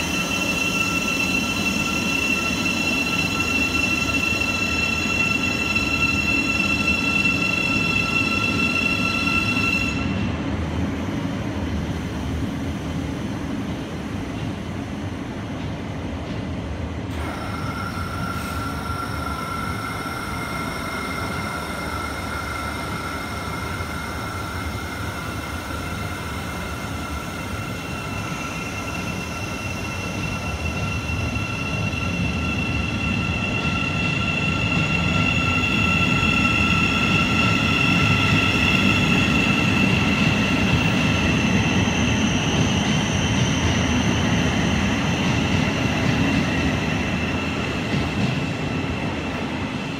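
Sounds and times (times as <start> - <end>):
train traction whine: 0.0 - 49.9.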